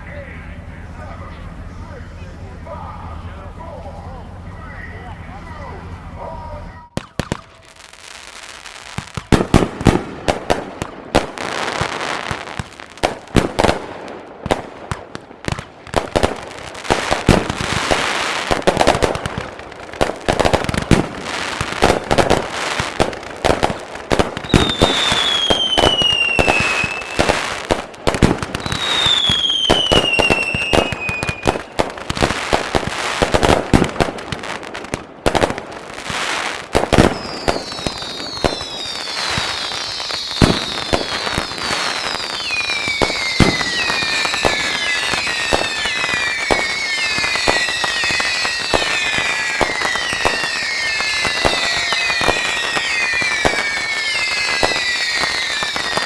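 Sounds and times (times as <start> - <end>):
fireworks bursts and crackle: 0.0 - 56.0
whistling fireworks: 0.0 - 56.0.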